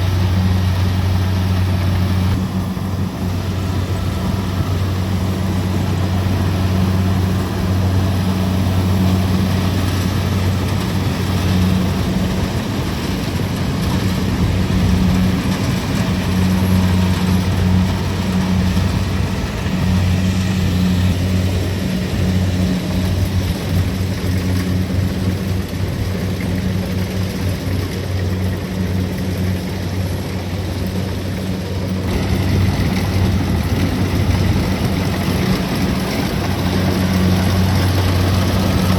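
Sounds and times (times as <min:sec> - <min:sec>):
diesel engine running: 0:00.0 - 0:38.9
threshing machinery clatter: 0:00.0 - 0:38.9.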